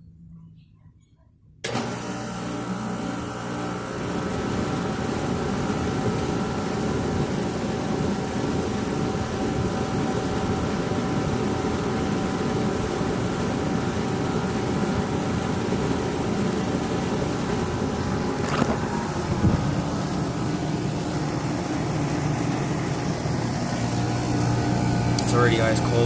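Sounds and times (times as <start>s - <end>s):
air conditioner hum: 0.0s - 26.0s
condenser fan rushing: 1.6s - 26.0s.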